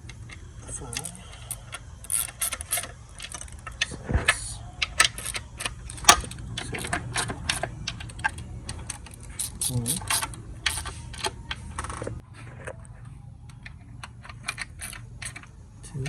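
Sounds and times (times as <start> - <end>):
hand ratchet clicking: 0.0 - 12.0, 14.1 - 15.5.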